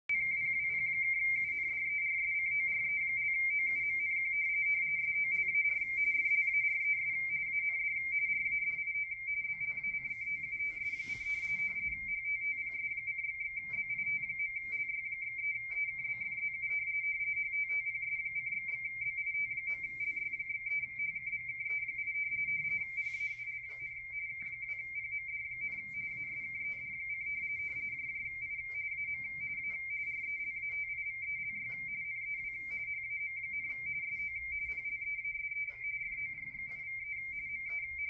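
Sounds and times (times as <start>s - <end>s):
radio teletype warble: 0.1s - 38.0s.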